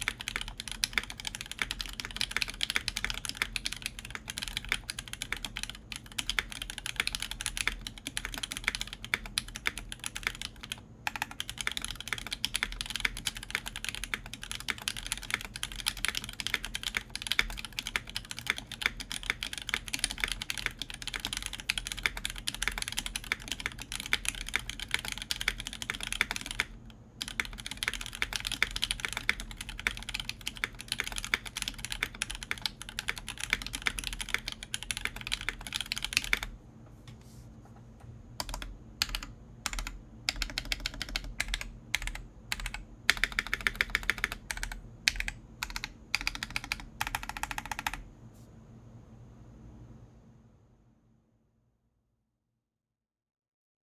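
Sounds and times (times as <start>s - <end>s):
fast mechanical keyboard typing: 0.0s - 36.6s, 38.4s - 48.1s.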